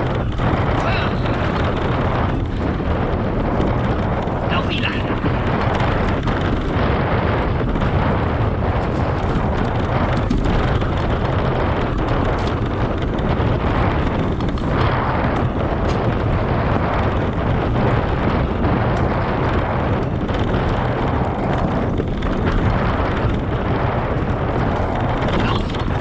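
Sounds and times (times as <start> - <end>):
bike tyre noise on dirt: 0.0 - 26.0
knocks and rattles from bumps: 0.0 - 26.0
wind rumble on microphone: 0.0 - 26.0.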